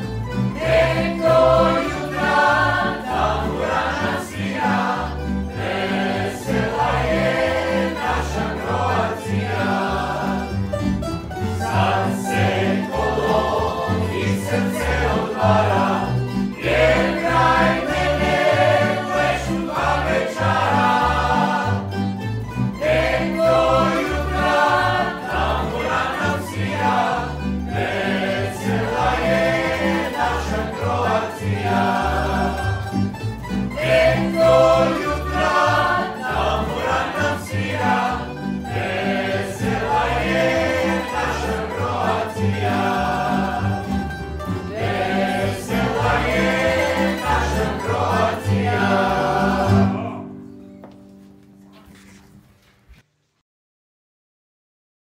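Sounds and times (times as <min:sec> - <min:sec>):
bass line: 0:00.0 - 0:50.3
string ensemble playing: 0:00.0 - 0:50.3
group of voices singing: 0:00.4 - 0:22.1, 0:22.8 - 0:50.3.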